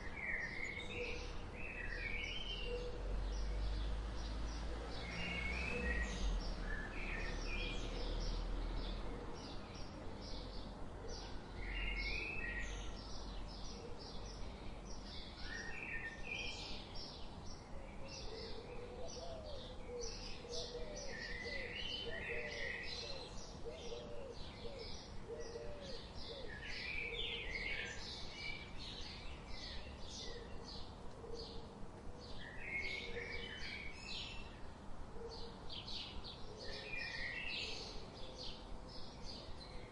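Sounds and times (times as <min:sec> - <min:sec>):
birds chirping and calling: 0:04.5 - 0:34.6, 0:35.2 - 0:39.9.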